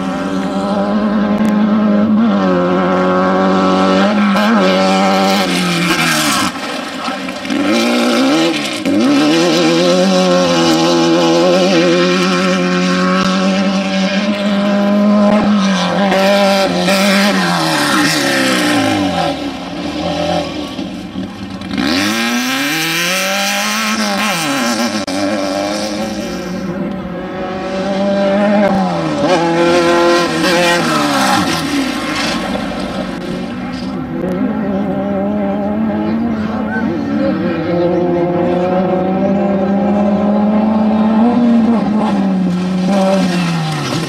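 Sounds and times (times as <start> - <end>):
race vehicle engines passing by: 0.0 - 44.0.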